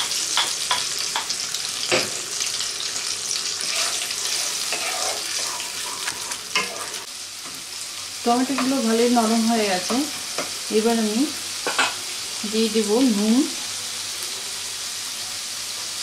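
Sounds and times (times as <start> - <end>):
paste sizzling in hot oil: 0.0 - 16.0.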